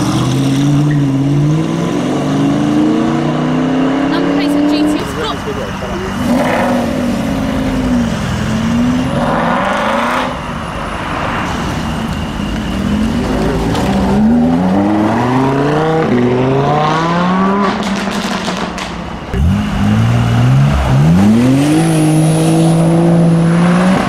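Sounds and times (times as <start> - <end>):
car engine revving and accelerating: 0.0 - 12.0, 12.7 - 24.0.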